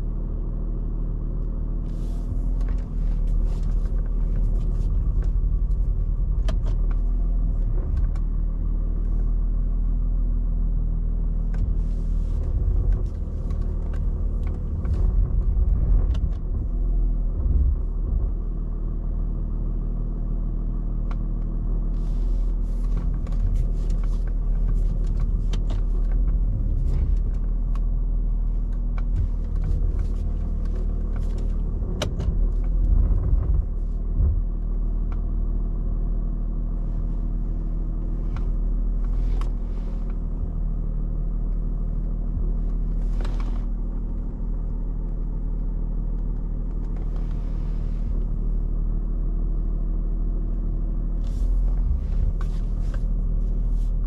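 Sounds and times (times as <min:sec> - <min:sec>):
diesel engine low rumble: 0:00.0 - 0:54.0.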